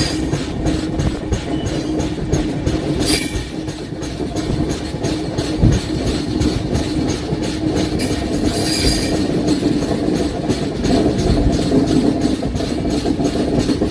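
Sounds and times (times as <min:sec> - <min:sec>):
train rumble and hum: 0:00.0 - 0:13.9
train wheels clattering: 0:00.0 - 0:13.9.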